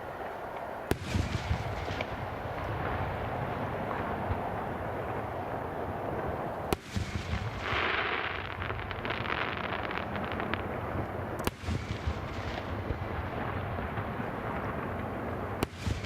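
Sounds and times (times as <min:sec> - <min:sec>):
crackling fireworks: 0:00.0 - 0:16.0
low background noise: 0:00.0 - 0:16.0.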